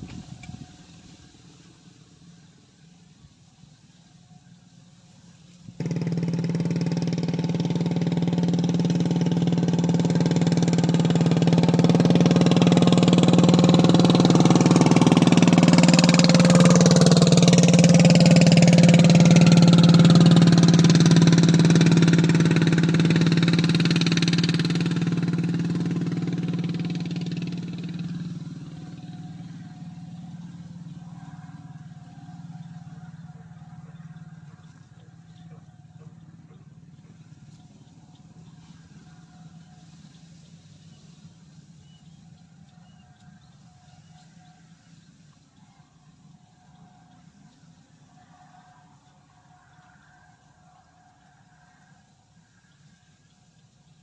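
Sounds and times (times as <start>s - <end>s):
motor engine passing by: 0.0s - 54.0s.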